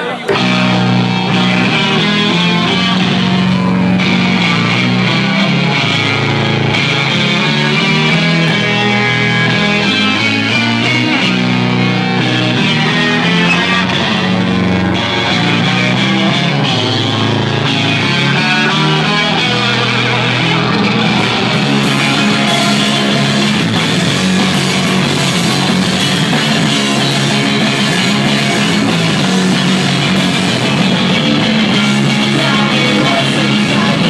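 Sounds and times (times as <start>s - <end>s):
live rock band: 0.0s - 34.0s.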